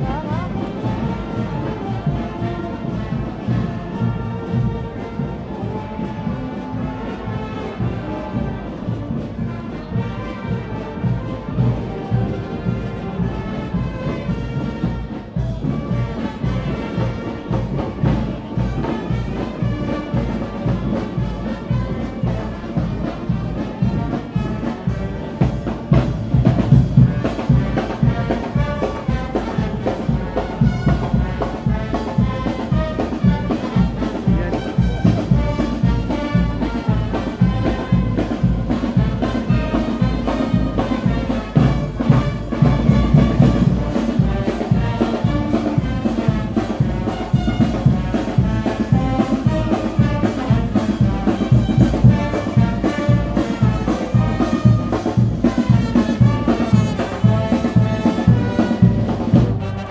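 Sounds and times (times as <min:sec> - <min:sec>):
brass band horns: 0:00.0 - 0:59.9
steady drum beat: 0:00.0 - 0:59.9.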